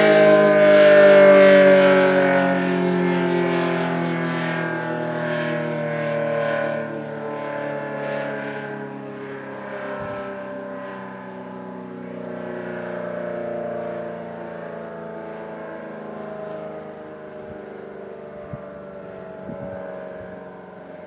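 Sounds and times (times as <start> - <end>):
rotating siren sounding a chord: 0.0 - 21.0.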